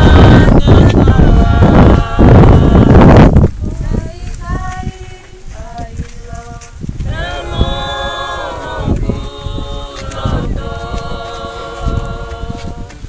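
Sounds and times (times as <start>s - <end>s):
group singing unaccompanied: 0.0s - 13.0s
wind rumble on microphone: 0.0s - 13.0s.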